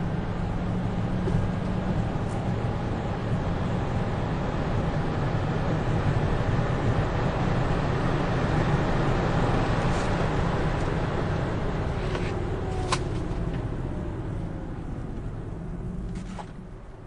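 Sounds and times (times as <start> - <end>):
car engine at high revs: 0.0 - 17.0
road noise: 0.0 - 17.0.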